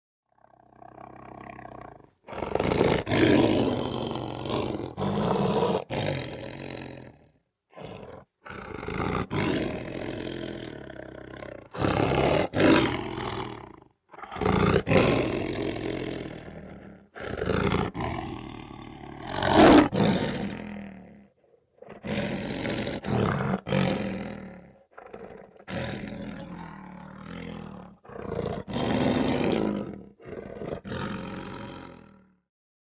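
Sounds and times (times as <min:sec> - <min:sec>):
lion growling and roaring: 0:00.4 - 0:32.4.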